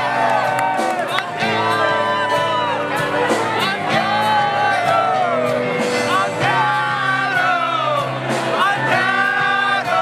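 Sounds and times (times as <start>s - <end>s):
live band music with singing: 0.0s - 10.0s.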